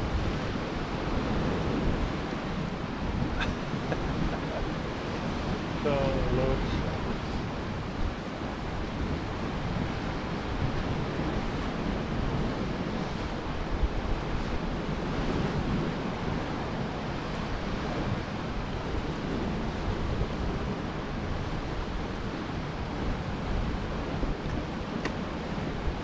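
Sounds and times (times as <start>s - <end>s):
surf washing against rocks: 0.0s - 26.0s
wind noise on microphone: 0.0s - 26.0s.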